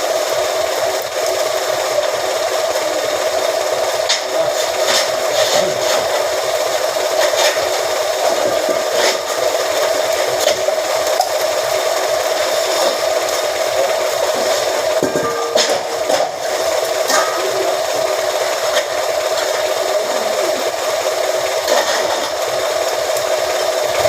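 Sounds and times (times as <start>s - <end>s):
press machine motor humming: 2.1s - 24.0s.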